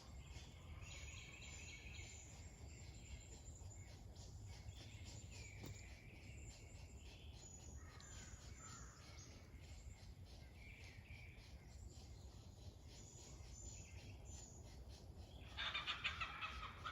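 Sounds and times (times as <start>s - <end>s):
bird calls: 0.0s - 16.9s
faint insect ticking: 0.0s - 16.9s.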